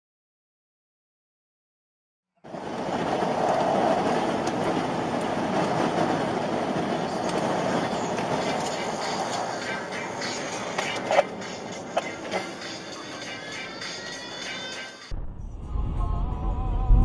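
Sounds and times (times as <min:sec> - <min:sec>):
road and engine noise: 0:02.4 - 0:17.0.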